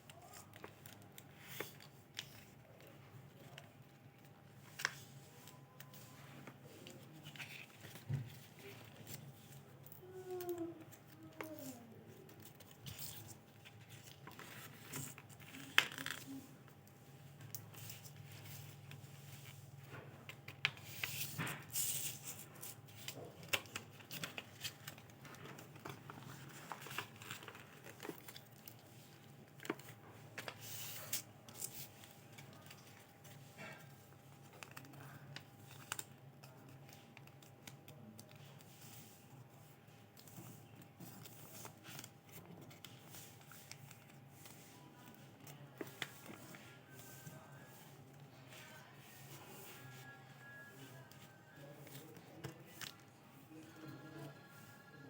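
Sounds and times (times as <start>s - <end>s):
paper rustling and crinkling: 0.0s - 54.6s.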